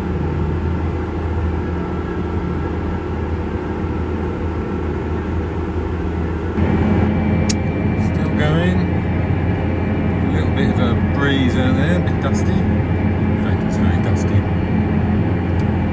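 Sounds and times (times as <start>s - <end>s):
high steady whine: 0.0s - 15.9s
tractor engine drone: 0.0s - 15.9s.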